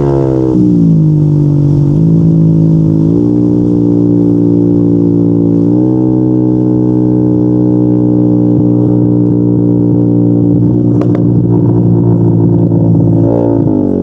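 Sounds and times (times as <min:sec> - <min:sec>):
scooter engine under throttle: 0:00.0 - 0:14.0.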